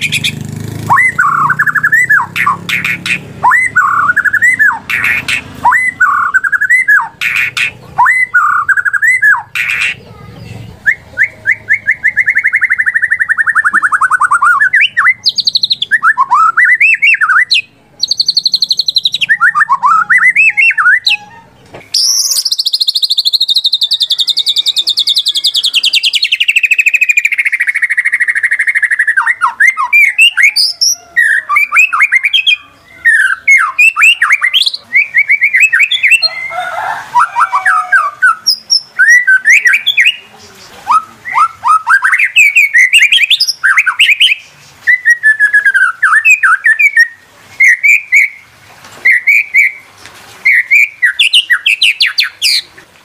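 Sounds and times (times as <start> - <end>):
bird singing whistled phrases: 0.0 - 40.2, 40.9 - 52.7.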